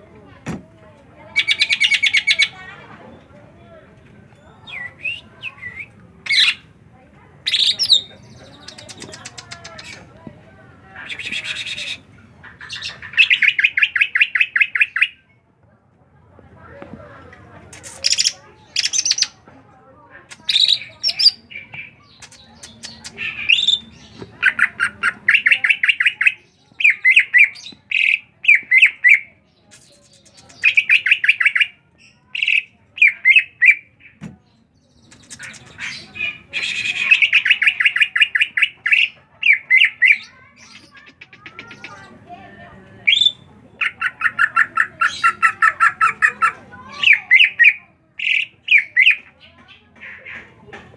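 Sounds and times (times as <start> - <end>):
bird chattering: 1.2 - 3.0, 4.4 - 6.8, 7.4 - 10.2, 10.9 - 15.2, 17.7 - 19.4, 20.2 - 50.6.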